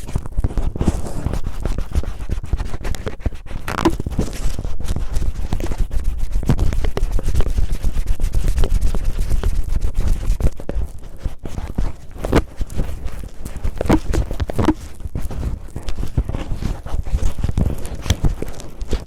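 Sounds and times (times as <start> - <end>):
cellophane crinkling on microphone: 0.0 - 19.0.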